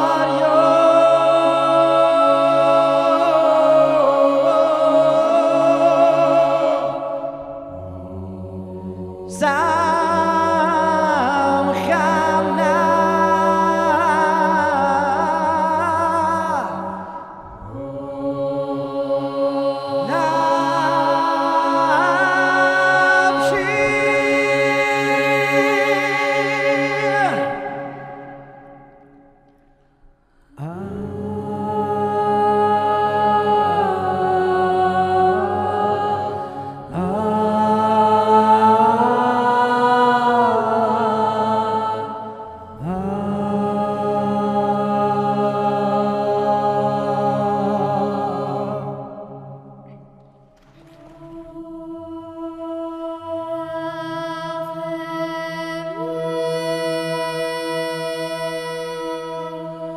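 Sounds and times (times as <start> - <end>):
choral chant: 0.0 - 59.9.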